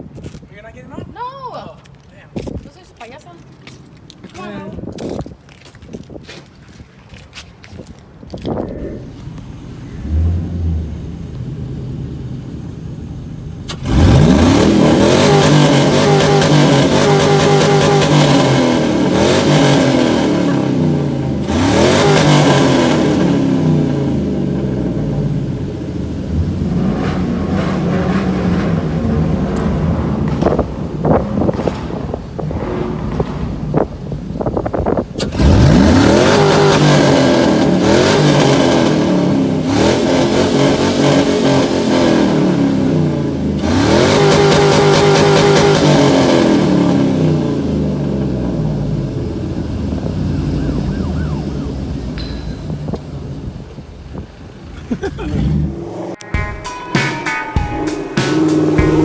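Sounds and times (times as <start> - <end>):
truck engine accelerating hard: 8.7 - 56.2, 58.2 - 59.0.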